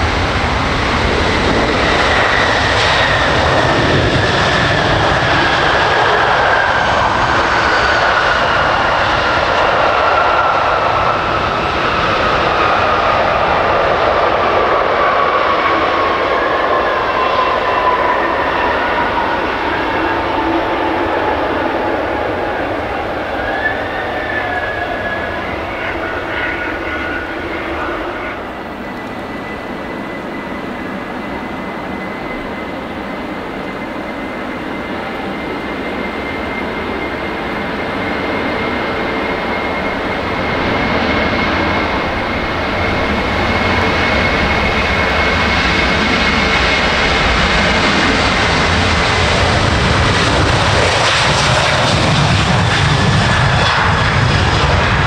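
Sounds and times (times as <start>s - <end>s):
jet engines whining and rumbling: 0.0s - 55.0s
jet engines winding down: 0.0s - 55.0s.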